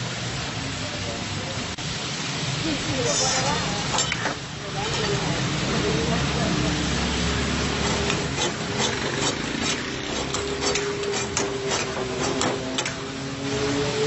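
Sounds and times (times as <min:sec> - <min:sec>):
food sizzling: 0:02.0 - 0:14.0.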